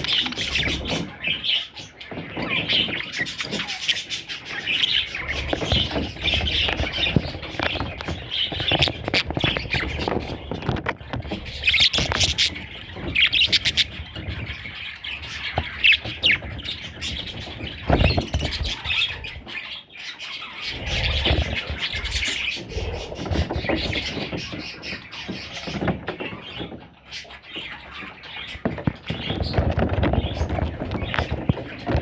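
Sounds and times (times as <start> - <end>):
bird chicks chirping: 0.0 - 32.0.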